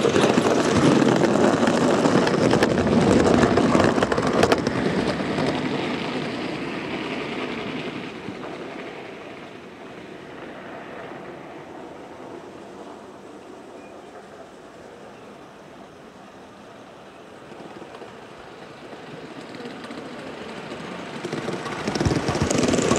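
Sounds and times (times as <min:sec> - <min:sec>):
steam locomotive running past: 0:00.0 - 0:22.9.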